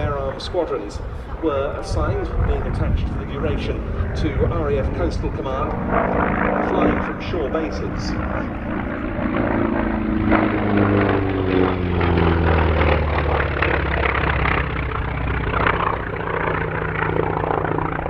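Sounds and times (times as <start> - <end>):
propeller plane flying past: 0.0 - 18.0.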